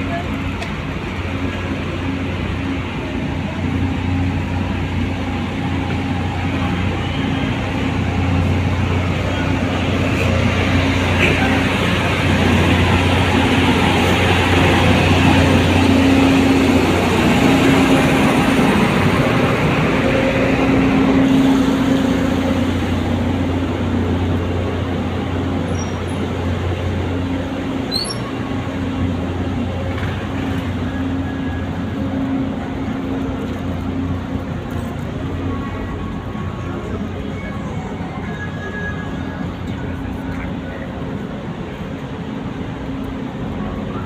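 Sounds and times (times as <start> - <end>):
fairground ride machinery drone: 0.0 - 44.0.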